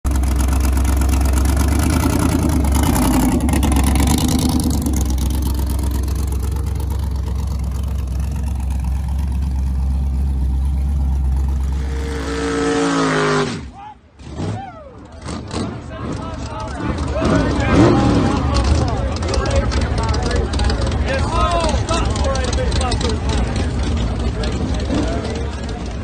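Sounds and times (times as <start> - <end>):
choppy engine idling: 0.0 - 12.6, 15.1 - 26.0.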